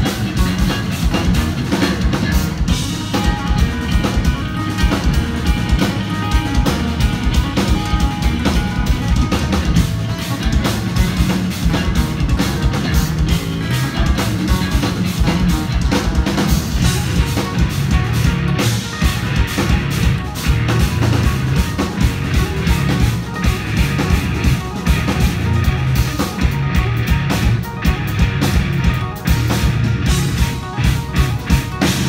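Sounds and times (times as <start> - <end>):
electric guitars playing metal riffs: 0.0 - 32.0
rapid bass drum strokes: 0.0 - 32.0.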